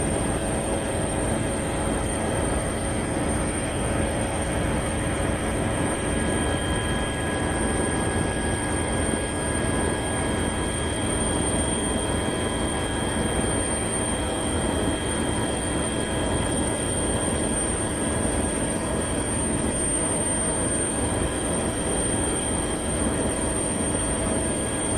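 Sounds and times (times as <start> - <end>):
helicopter rumble: 0.0 - 24.9.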